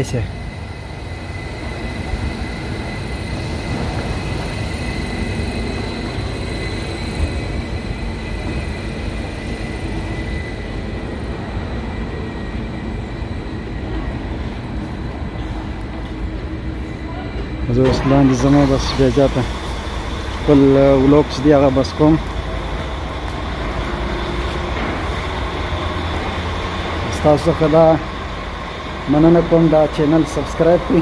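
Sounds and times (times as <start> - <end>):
electric train hum: 0.0 - 31.0.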